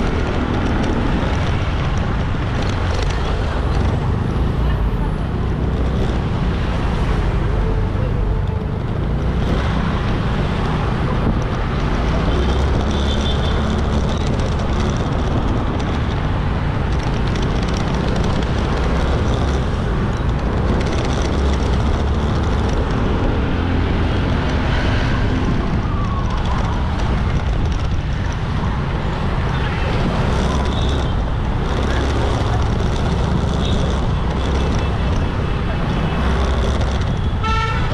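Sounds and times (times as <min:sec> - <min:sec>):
motorbike engine: 0:00.0 - 0:37.9
street traffic: 0:00.0 - 0:37.9
wind buffeting microphone: 0:00.0 - 0:37.9.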